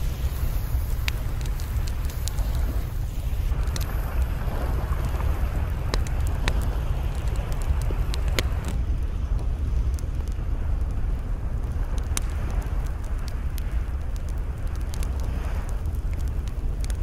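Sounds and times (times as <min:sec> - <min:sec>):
campfire crackling and popping: 0:00.0 - 0:17.0
wind rumble on microphone: 0:00.0 - 0:17.0.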